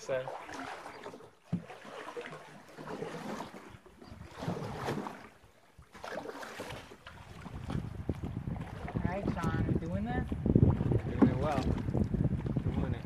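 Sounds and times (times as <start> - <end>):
paddle strokes splashing water: 0.0 - 13.0.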